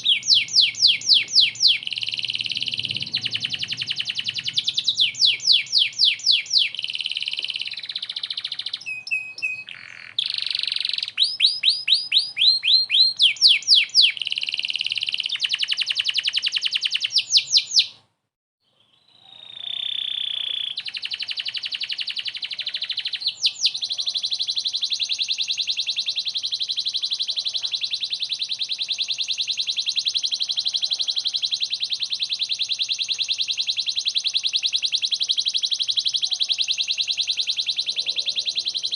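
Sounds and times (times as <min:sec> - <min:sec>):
canary singing chirps and trills: 0:00.0 - 0:18.0, 0:18.6 - 0:38.9.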